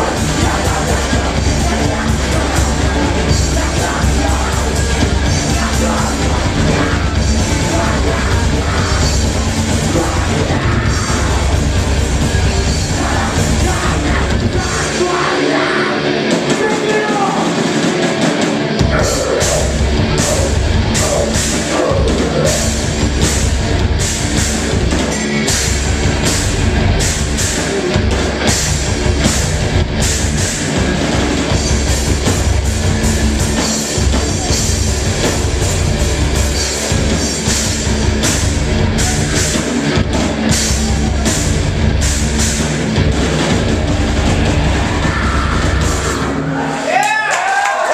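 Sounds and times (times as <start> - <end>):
heavy rock band playing: 0.0 - 47.9.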